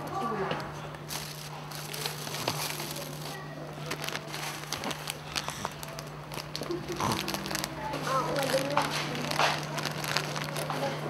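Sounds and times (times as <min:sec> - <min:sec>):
plastic snack packet crinkling: 0:01.0 - 0:11.0.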